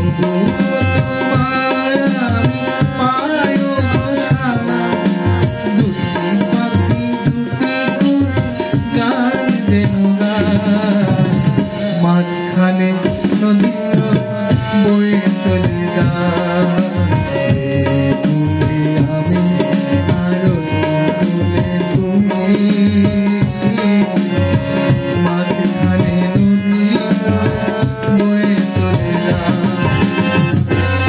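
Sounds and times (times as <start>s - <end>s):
man singing: 0.0s - 31.0s
tabla drumming: 0.0s - 31.0s.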